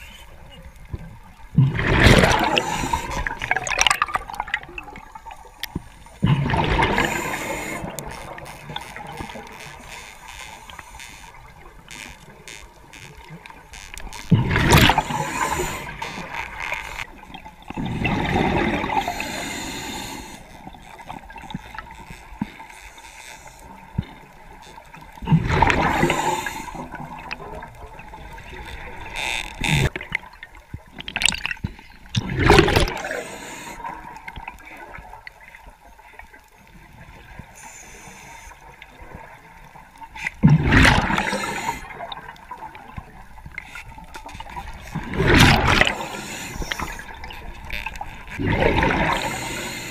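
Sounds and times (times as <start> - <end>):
water sloshing and gurgling: 0.0 - 49.9.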